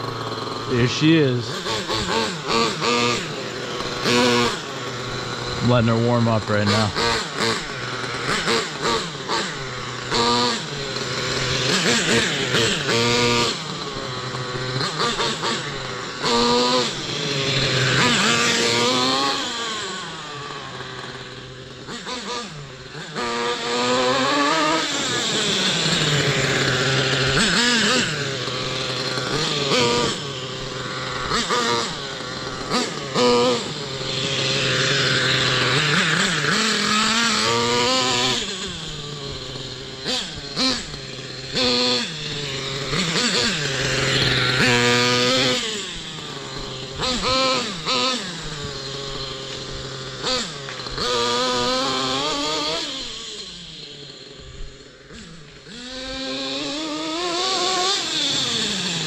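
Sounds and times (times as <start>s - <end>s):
rc truck engine revving: 0.0s - 59.0s.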